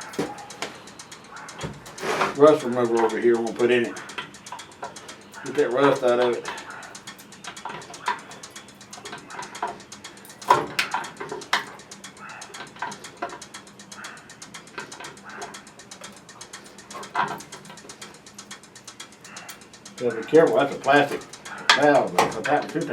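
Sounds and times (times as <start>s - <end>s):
ratchet wrench clicking: 0.0s - 22.9s.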